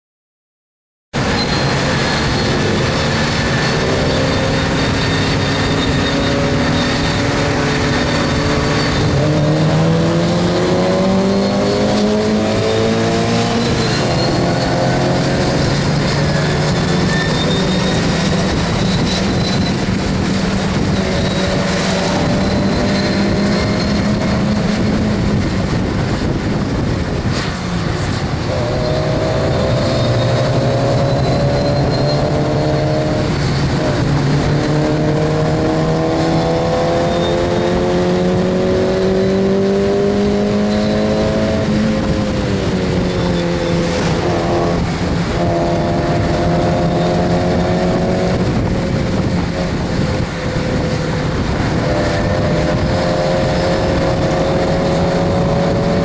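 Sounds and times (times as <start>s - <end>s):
wind and road noise: 1.1s - 56.0s
car engine revving under load: 1.2s - 56.0s.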